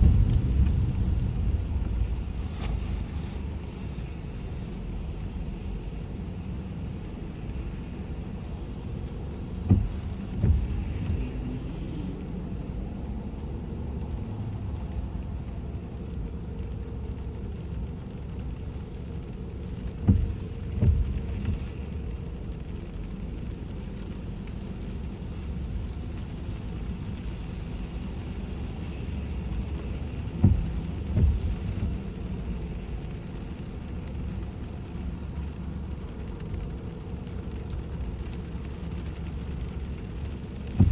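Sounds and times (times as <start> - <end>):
car road rumble on wet road: 0.0 - 40.9.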